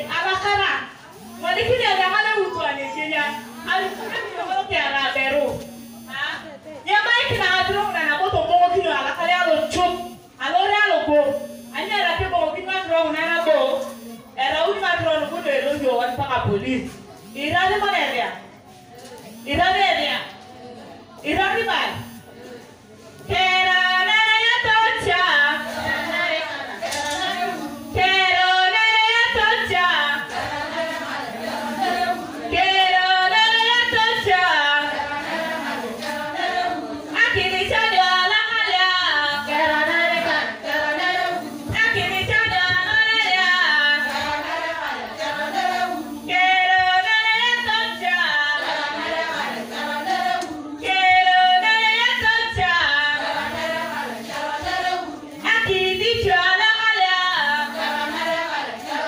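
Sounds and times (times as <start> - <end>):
women singing together: 0.0 - 59.0.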